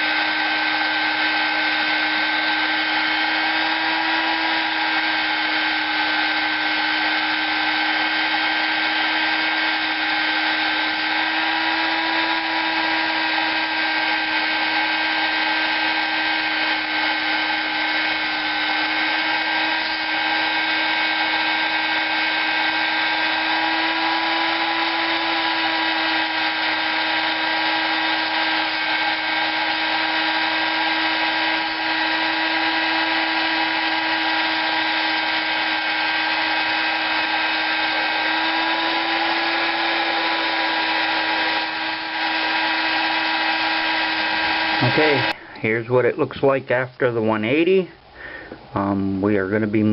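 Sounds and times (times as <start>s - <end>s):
rotary tool sanding metal: 0.0s - 45.4s.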